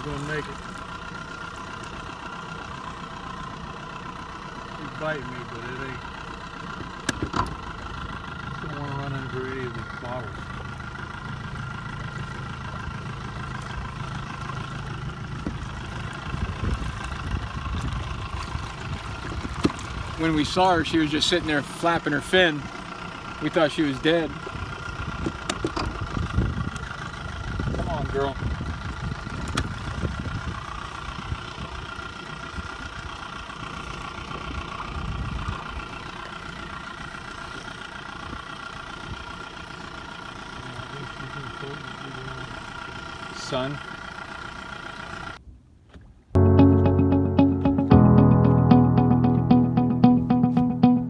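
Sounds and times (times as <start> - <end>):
outboard motor idling: 0.0 - 45.4.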